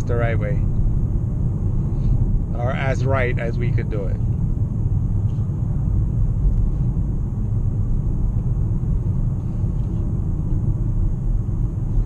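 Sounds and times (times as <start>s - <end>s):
car road noise from cabin: 0.0s - 12.0s.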